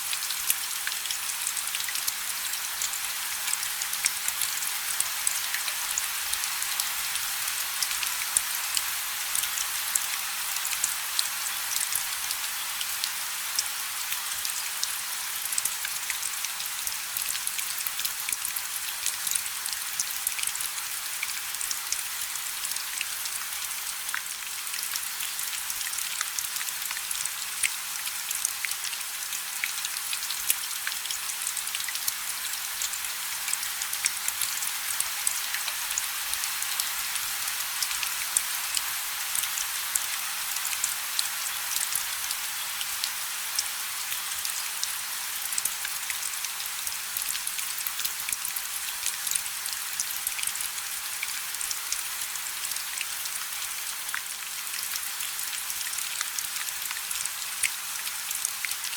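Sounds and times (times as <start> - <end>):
rain drops ticking on a surface: 0.0 - 58.9.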